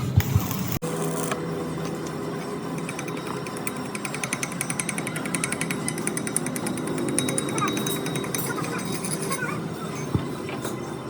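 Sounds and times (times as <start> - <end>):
workshop background noise: 0.0 - 11.0.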